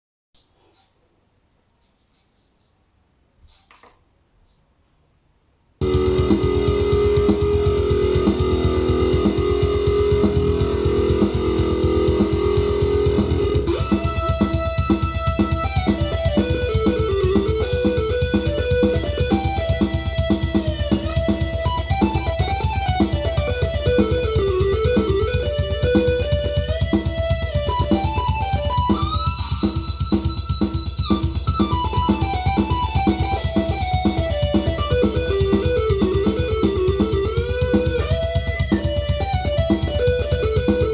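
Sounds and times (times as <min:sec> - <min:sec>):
synthesizer melody line: 0:05.8 - 0:40.9
synthesizer plucked rhythm: 0:05.8 - 0:40.9.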